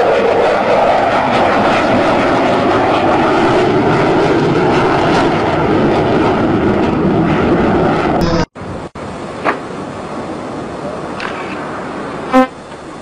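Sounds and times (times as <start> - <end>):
fighter jet engines roaring: 0.0 - 13.0.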